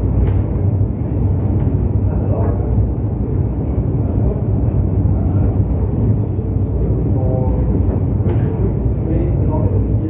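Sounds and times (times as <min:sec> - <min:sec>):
funicular wheels rumbling: 0:00.0 - 0:10.0.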